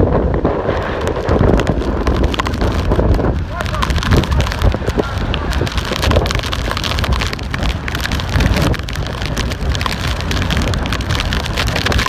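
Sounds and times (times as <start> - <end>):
heavy rain driving down: 0.0 - 12.0
wind buffeting microphone: 0.0 - 12.0
wind gusting: 0.0 - 12.0.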